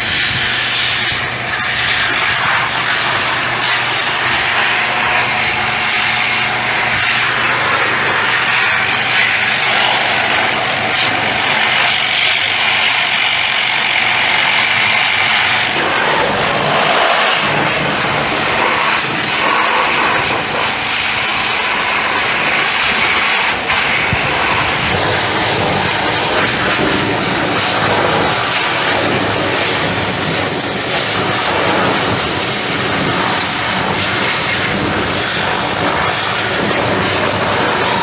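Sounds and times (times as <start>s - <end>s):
pressure washer water jet hissing: 0.0s - 38.0s.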